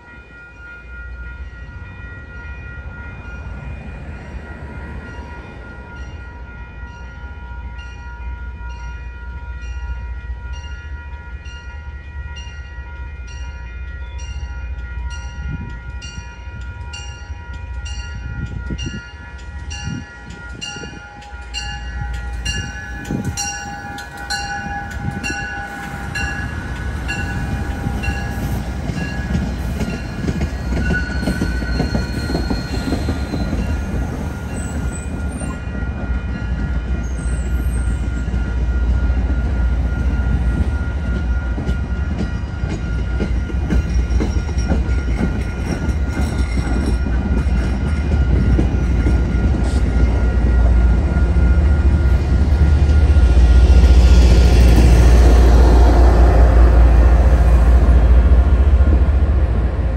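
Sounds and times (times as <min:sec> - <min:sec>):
locomotive bell ringing: 0:00.0 - 0:59.9.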